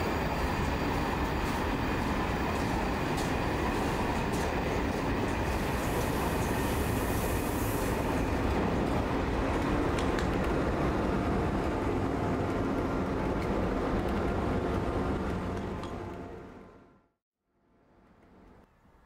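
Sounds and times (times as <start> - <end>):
train wheels rumbling over rails: 0.0 - 16.8.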